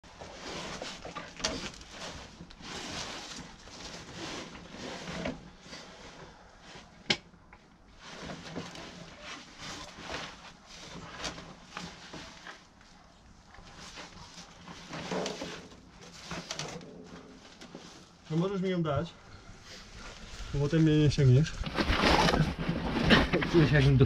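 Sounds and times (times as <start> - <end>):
suit rustling and scraping on rock: 0.0 - 7.0, 7.9 - 18.6, 19.5 - 24.0.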